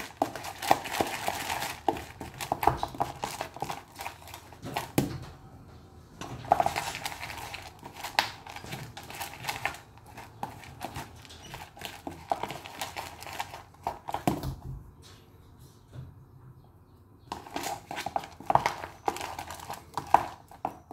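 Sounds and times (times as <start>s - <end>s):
plastic spoon scraping dry mix: 0.0s - 5.1s, 6.2s - 14.5s, 17.3s - 20.9s.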